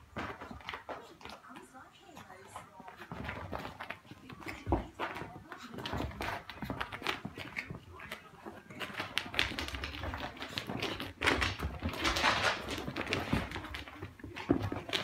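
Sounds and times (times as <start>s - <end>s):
paws scuffling on carpet: 0.0s - 15.0s.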